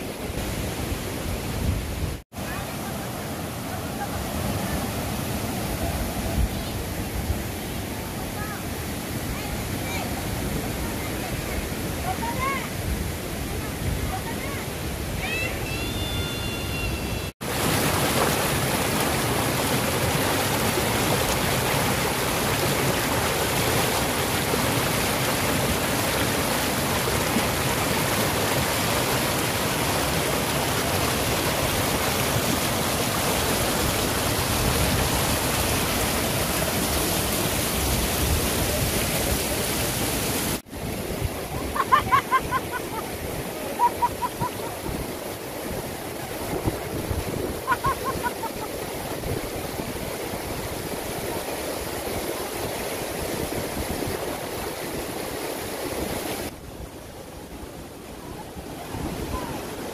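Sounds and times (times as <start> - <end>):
quiet stream: 0.0 - 59.9
river rapids rushing: 2.4 - 59.9.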